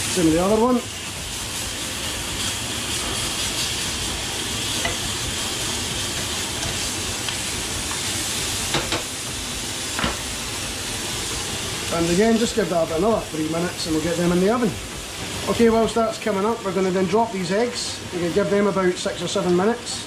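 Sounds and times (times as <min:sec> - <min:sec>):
steaks sizzling in frying pan: 0:00.0 - 0:20.0.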